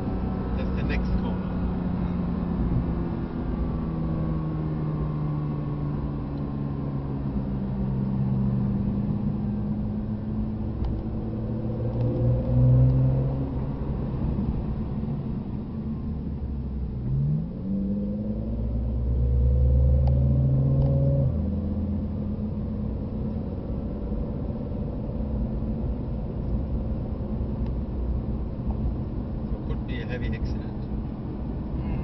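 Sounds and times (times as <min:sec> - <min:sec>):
car engine from inside cabin: 0:00.0 - 0:32.0
road rumble: 0:00.0 - 0:32.0.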